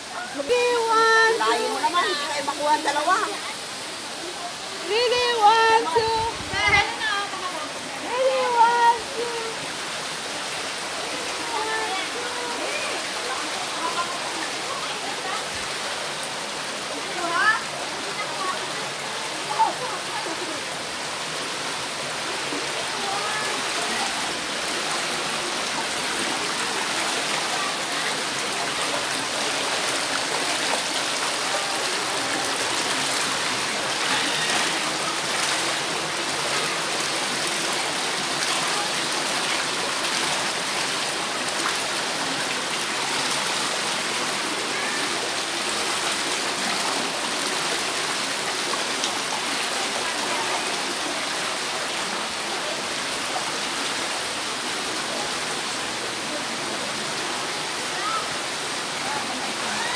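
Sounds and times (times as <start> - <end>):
stream splashing over stones: 0.0 - 59.9.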